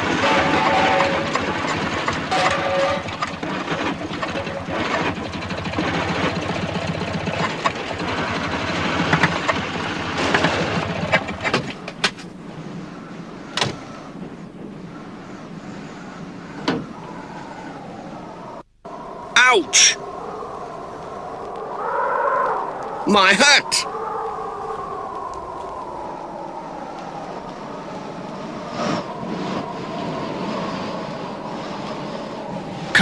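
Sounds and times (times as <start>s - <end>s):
strong gusting wind: 0.0s - 33.0s.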